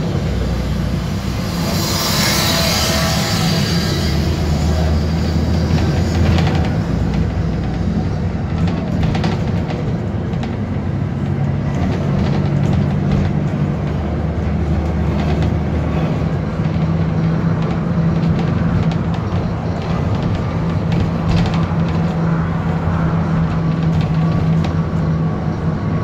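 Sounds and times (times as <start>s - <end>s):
bus diesel engine droning: 0.0s - 26.0s
rattles inside bus: 0.0s - 26.0s.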